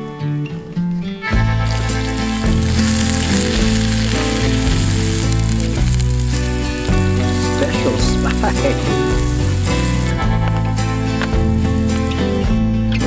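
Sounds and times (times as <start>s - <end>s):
background music: 1.2s - 13.0s
food sizzling in a pan: 1.6s - 12.6s.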